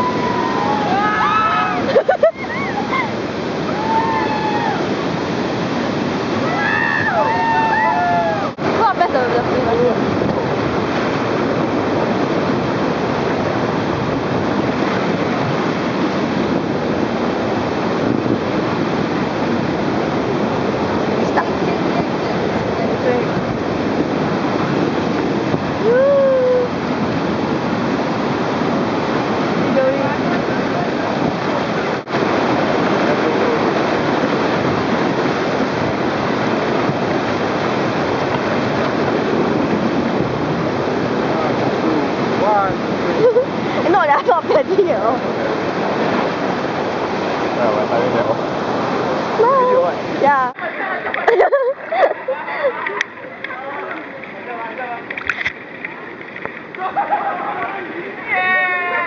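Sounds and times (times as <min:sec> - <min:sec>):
whitewater rapids roaring: 0:00.0 - 0:59.0.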